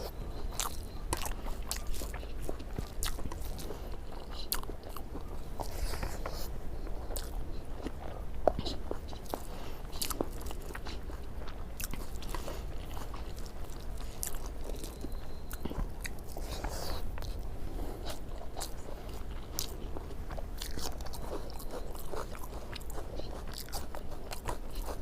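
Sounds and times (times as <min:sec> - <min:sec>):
person chewing with mouth smacks: 0:00.0 - 0:25.0
steady low hum: 0:00.0 - 0:25.0.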